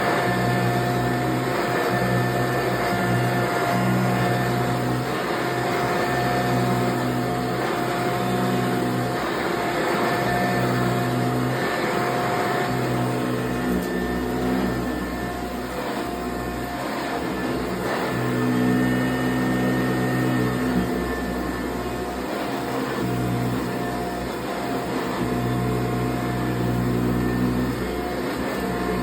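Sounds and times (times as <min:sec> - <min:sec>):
vacuum cleaner whine: 0:00.0 - 0:29.0.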